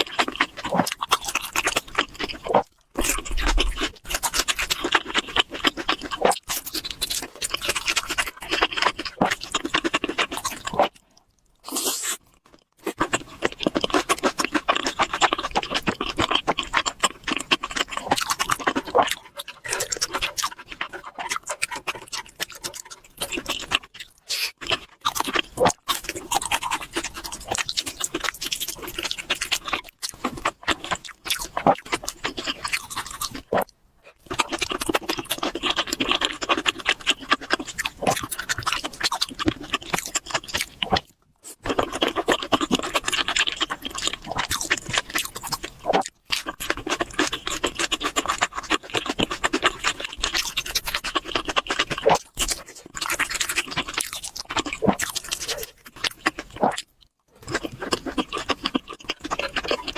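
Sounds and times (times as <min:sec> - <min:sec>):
close chewing and crunching: 0:00.0 - 0:59.9.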